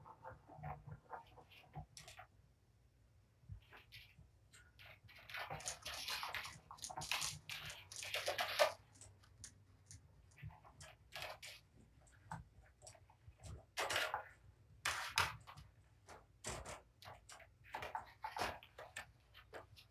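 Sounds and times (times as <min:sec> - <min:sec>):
cats scrabbling and clawing: 0:00.0 - 0:02.4, 0:03.5 - 0:19.9
light clicks and taps: 0:03.5 - 0:19.9.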